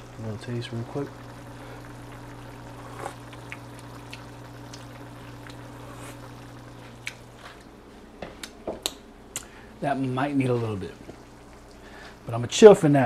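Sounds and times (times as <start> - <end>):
meat simmering with bubbling ticks: 0.0 - 12.8
steady low hum: 0.0 - 13.0.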